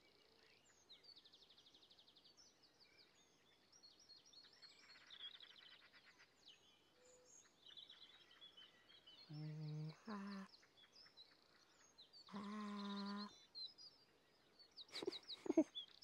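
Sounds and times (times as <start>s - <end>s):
faint songbird chirps and trills: 0.0s - 16.0s.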